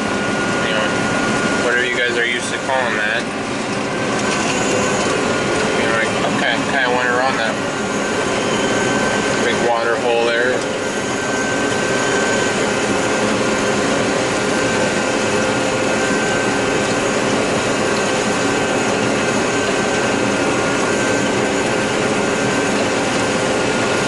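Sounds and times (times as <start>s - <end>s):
combine harvester drone: 0.0s - 24.0s
constant machine whine: 0.0s - 24.0s.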